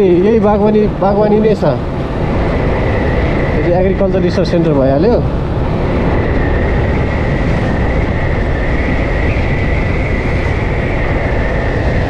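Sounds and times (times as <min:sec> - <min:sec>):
faint constant whine: 0:00.0 - 0:12.0
wind rush on microphone: 0:00.0 - 0:12.0.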